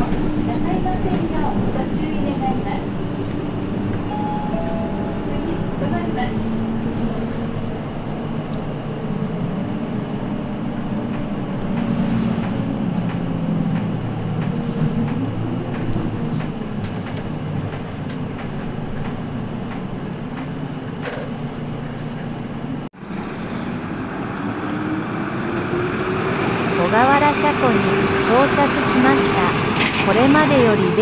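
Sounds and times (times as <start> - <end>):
bus engine and road drone: 0.0 - 31.0.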